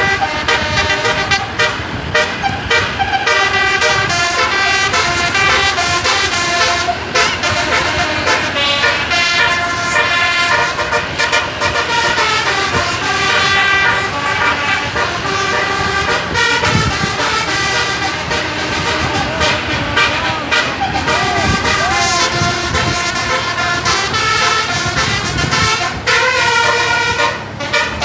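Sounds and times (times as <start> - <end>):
bus air horn playing a tune: 0.0 - 28.0.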